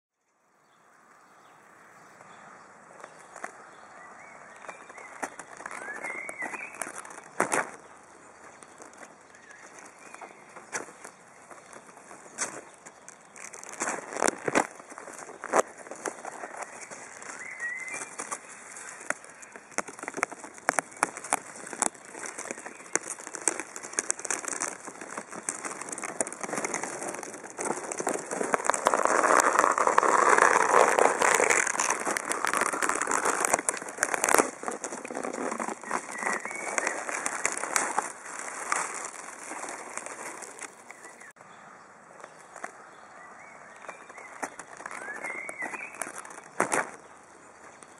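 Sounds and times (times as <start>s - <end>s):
dense crackling noise: 4.5s - 41.4s, 43.7s - 47.9s.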